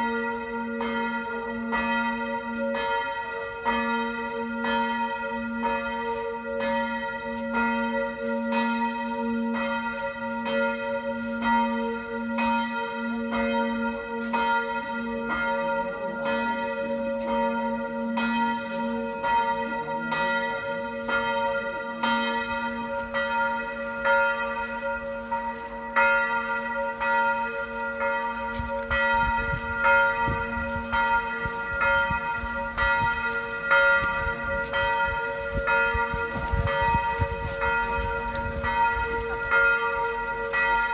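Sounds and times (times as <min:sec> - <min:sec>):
church bell tolling: 0:00.0 - 0:40.9.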